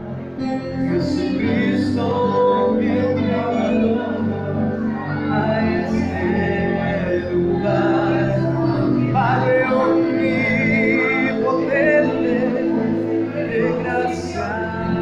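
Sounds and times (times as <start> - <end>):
sustained instrumental accompaniment: 0.0 - 15.0
worship singing: 0.0 - 15.0.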